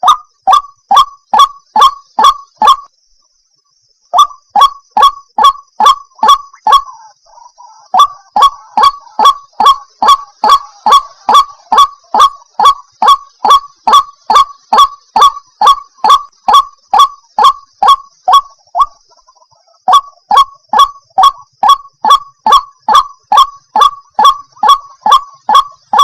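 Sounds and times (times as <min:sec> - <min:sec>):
waterhen calling: 0:00.0 - 0:02.9, 0:04.2 - 0:26.0.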